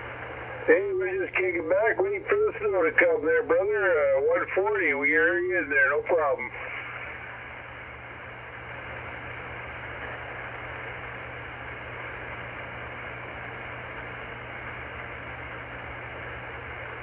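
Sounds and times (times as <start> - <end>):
low hum: 0.0 - 17.0
radio static hiss: 0.0 - 17.0.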